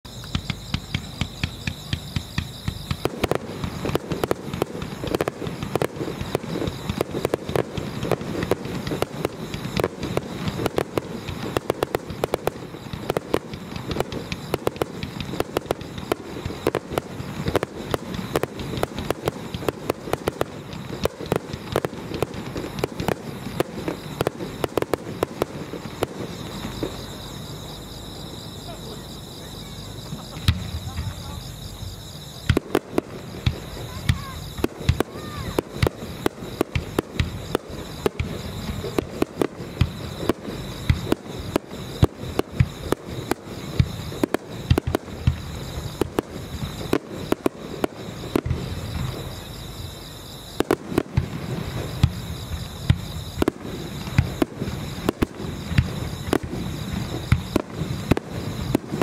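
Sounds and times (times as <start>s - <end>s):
crickets chirping: 0.0s - 59.0s
fireworks bangs and crackles: 0.0s - 59.0s.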